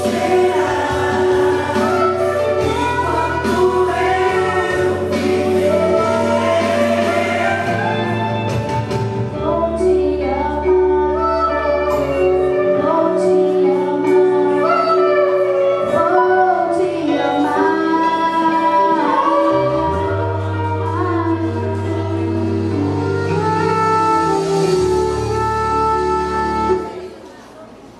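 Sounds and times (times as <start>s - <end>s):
woman singing slow melody: 0.0s - 8.5s, 9.4s - 27.0s
low bass notes: 0.0s - 14.5s, 17.7s - 26.8s
held instrumental chords: 0.0s - 27.2s.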